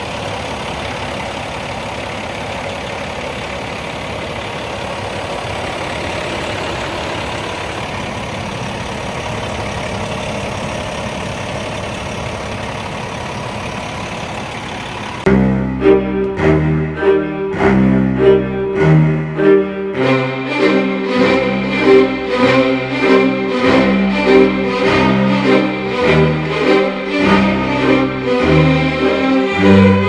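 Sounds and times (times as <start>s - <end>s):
vacuum truck engine droning: 0.0s - 30.0s.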